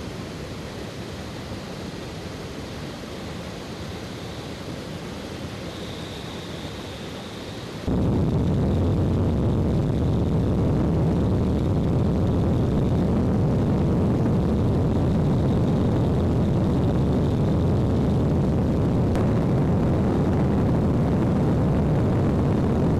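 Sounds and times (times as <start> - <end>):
airplane cabin drone: 0.0 - 22.9.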